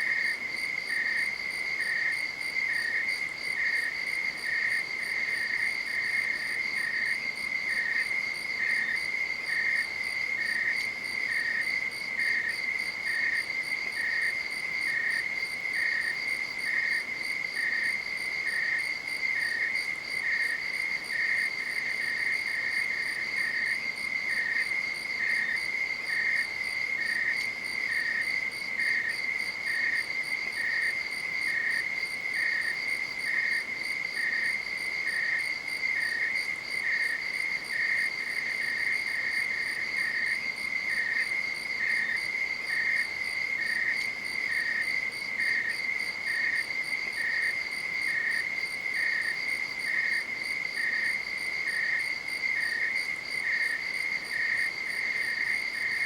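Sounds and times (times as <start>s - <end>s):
lower insect chirp: 0.0s - 56.0s.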